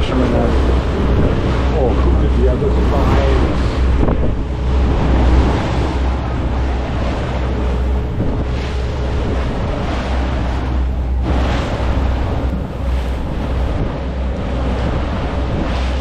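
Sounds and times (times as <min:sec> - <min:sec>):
boat engine drone: 0:00.0 - 0:16.0
churning water rushing: 0:00.0 - 0:16.0
wind buffeting microphone: 0:00.0 - 0:16.0.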